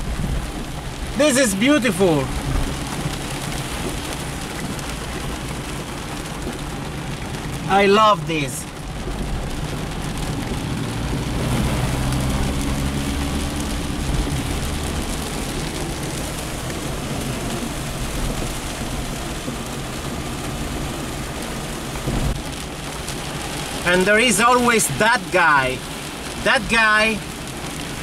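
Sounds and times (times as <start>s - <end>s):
heavy rain drumming on car roof: 0.0s - 28.0s.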